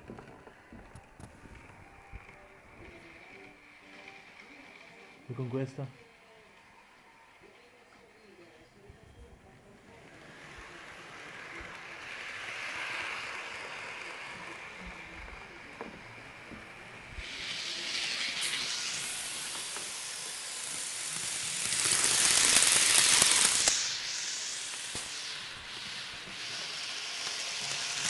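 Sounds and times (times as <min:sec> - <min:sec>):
steam locomotive hissing: 0:01.4 - 0:07.5, 0:09.7 - 0:28.0.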